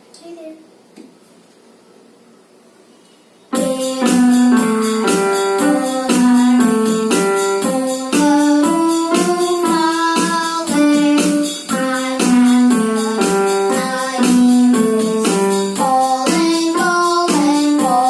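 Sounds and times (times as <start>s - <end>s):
electronic keyboard melody: 3.5s - 18.0s.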